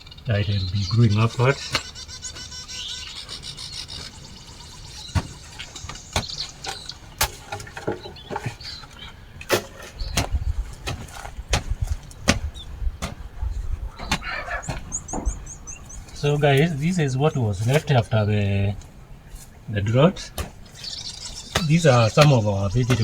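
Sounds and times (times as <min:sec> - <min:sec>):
low gusty rumbling: 0:04.0 - 0:23.0.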